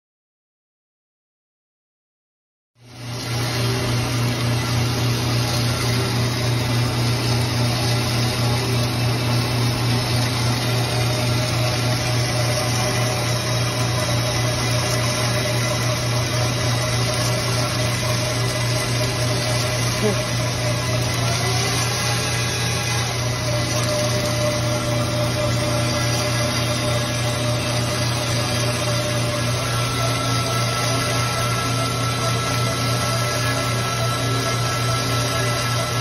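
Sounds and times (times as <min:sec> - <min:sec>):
bandsaw humming: 0:03.0 - 0:36.0.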